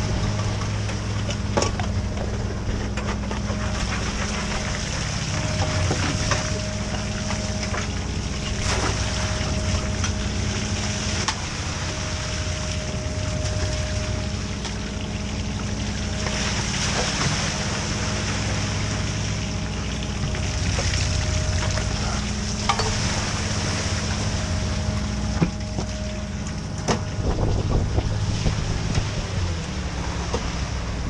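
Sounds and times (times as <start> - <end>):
boat engine running: 0.0 - 31.0
wind: 0.0 - 31.0.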